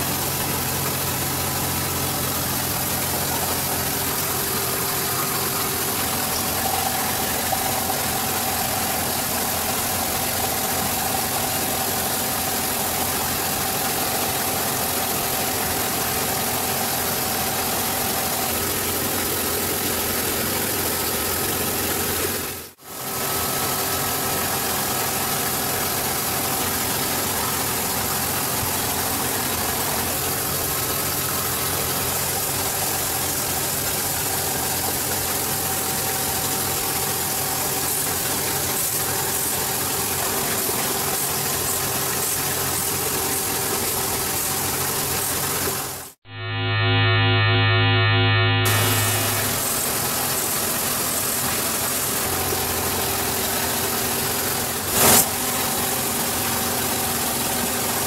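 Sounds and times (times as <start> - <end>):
engine room machinery hum: 0.0 - 58.0.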